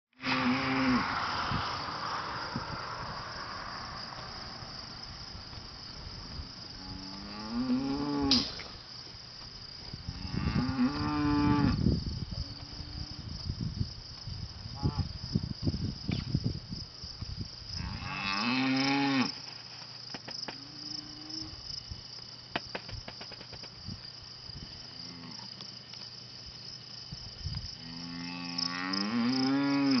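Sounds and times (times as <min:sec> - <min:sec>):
crickets chirring: 0:00.2 - 0:30.0.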